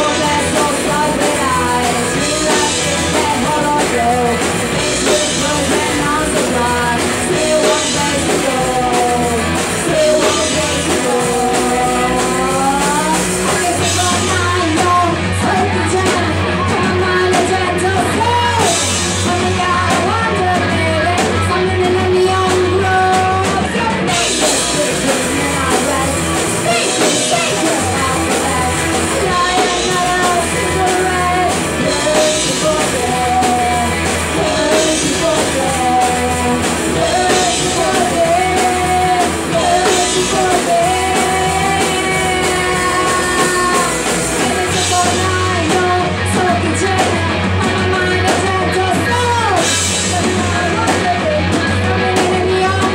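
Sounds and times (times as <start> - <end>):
lead singer singing: 0.0 - 52.9
rock band playing live: 0.0 - 52.9.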